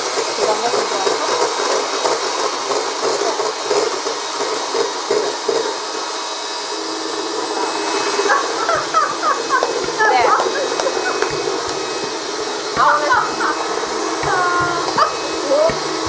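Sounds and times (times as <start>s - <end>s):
electric hand mixer beating: 0.0s - 16.0s.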